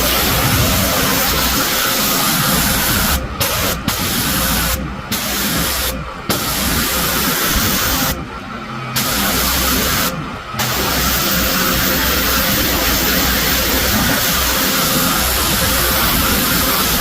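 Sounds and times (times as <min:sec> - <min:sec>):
pressure washer spraying: 0:00.0 - 0:08.2, 0:09.0 - 0:17.0.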